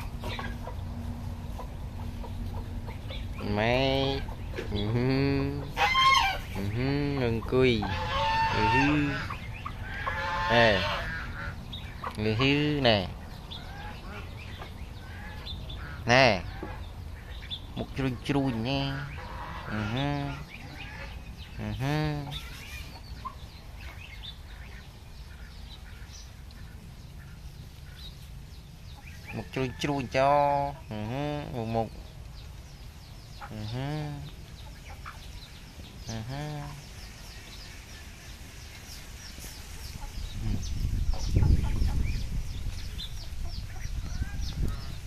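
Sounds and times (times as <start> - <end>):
poultry clucking and chirping: 0.0 - 45.0.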